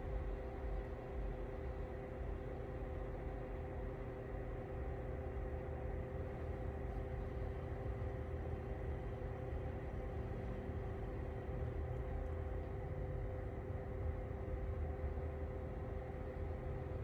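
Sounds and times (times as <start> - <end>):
space heater fan rushing: 0.0 - 17.0.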